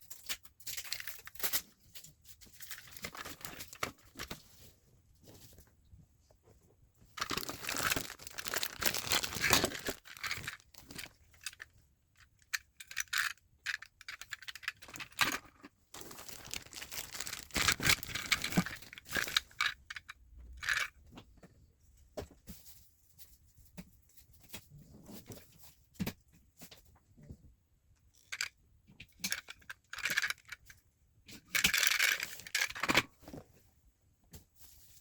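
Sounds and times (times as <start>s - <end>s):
rustling and crinkling: 0.0s - 27.4s, 31.4s - 35.0s.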